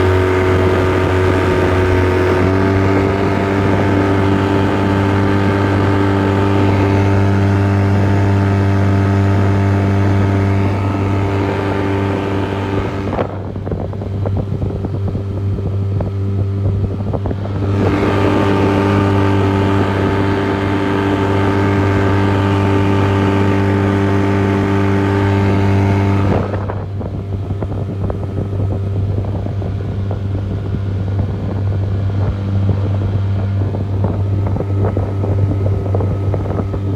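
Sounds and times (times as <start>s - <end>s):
outboard motor at full throttle: 0.0s - 36.9s.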